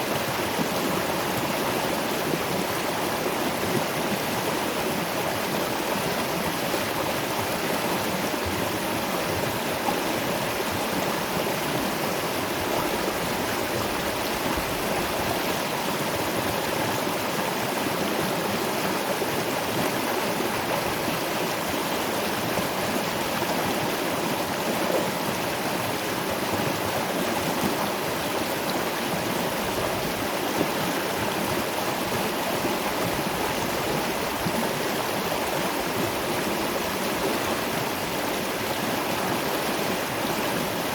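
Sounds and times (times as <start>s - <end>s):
stream and waterfall rushing: 0.0s - 40.9s.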